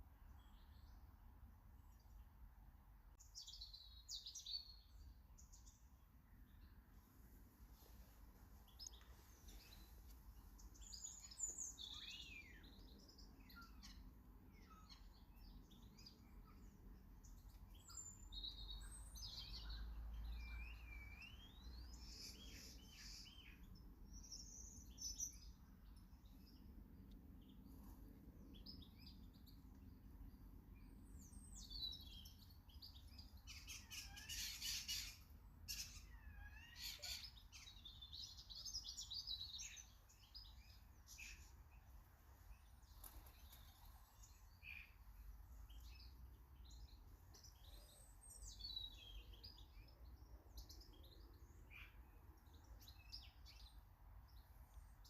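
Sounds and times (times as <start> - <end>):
small birds chirping: 0.0 - 2.4, 3.1 - 55.0.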